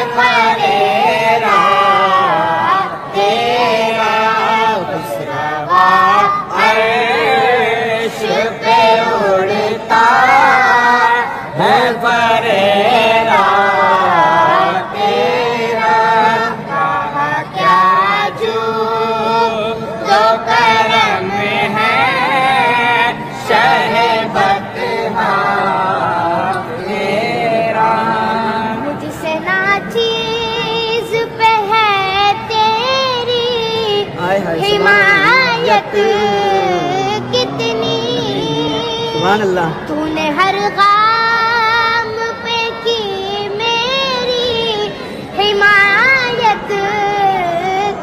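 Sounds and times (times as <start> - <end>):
boy singing devotional song: 0.0 - 48.0.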